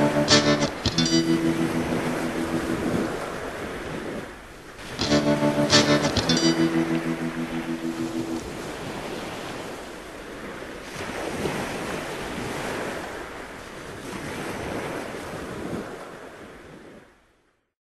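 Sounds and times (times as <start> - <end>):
ocean waves washing in: 0.0 - 17.1.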